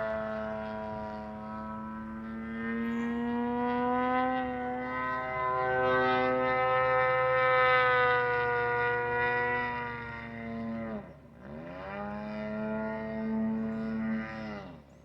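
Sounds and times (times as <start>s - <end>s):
model airplane engine buzzing: 0.0s - 15.0s.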